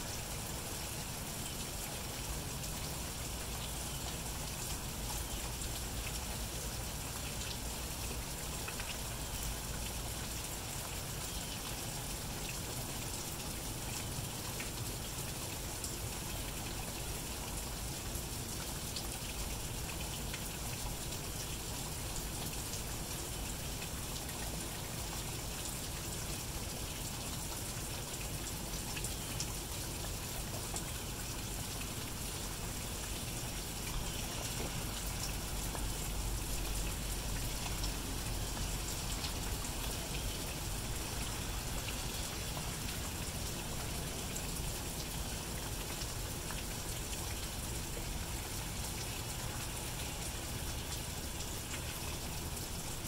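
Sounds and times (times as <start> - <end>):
light rain pattering: 0.0 - 53.0.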